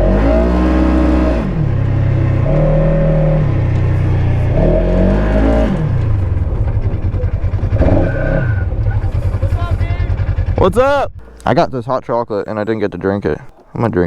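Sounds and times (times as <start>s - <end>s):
off-road vehicle engine revving: 0.0s - 11.6s.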